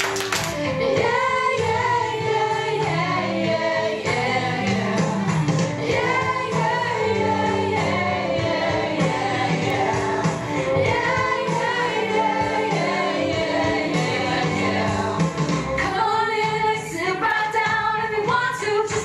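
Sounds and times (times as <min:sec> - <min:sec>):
voices singing with instrumental backing: 0:00.0 - 0:19.0.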